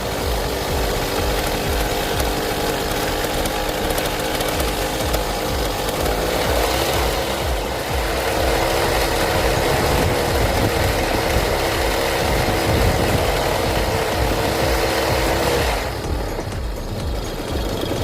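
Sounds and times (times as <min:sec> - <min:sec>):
brush-cutter engine running: 0:00.0 - 0:18.0.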